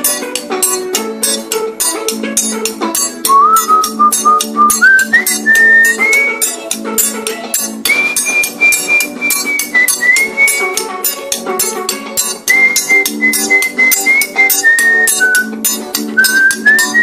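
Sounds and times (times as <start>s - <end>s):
high held melody line: 0.0s - 17.0s.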